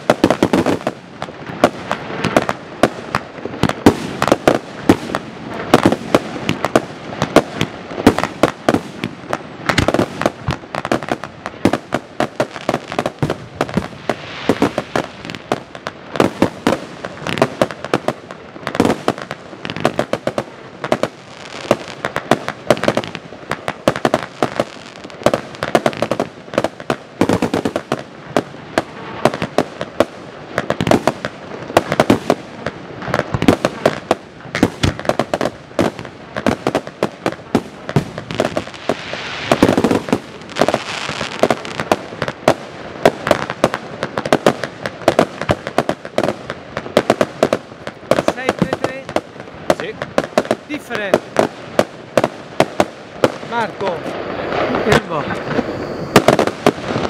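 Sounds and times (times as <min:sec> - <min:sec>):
firework shots firing: 0:00.0 - 0:57.0.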